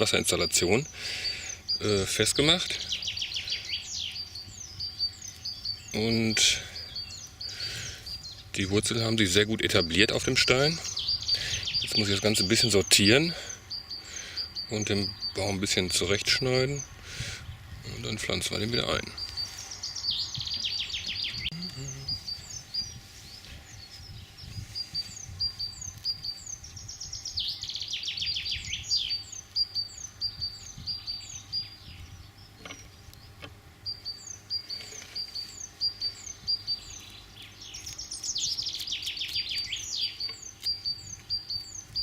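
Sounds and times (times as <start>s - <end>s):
descending bird trill: 0.0s - 16.9s, 18.4s - 23.0s, 23.7s - 42.0s
songbirds chirping: 0.0s - 42.0s.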